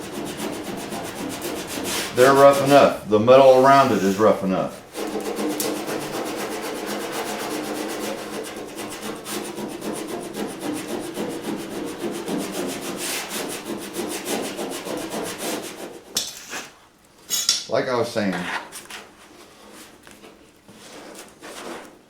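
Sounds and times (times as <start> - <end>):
sandpaper scuffing steel: 0.0 - 17.5, 18.4 - 22.0.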